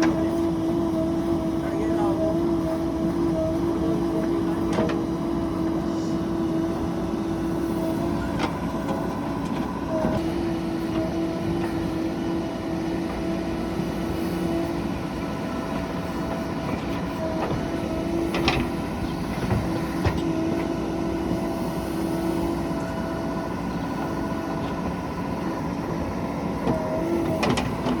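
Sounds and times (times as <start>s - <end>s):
diesel machinery engine hum: 0.0s - 28.0s.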